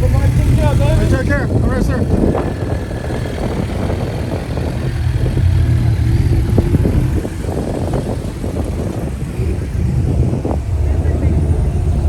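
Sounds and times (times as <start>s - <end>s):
vehicle engine rumbling past: 0.0s - 12.0s.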